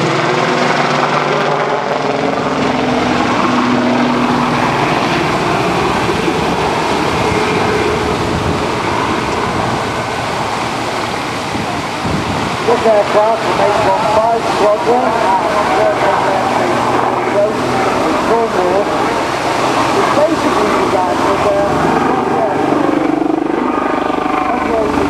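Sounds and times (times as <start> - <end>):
aircraft engine drone: 0.0 - 25.0.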